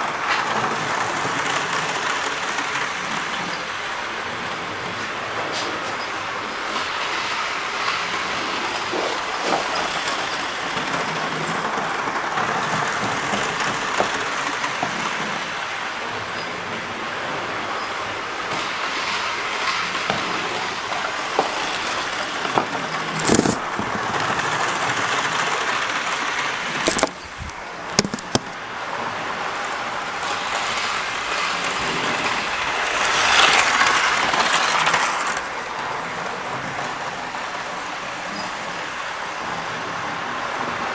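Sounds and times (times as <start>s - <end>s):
model train whirring rattle: 0.0s - 40.9s.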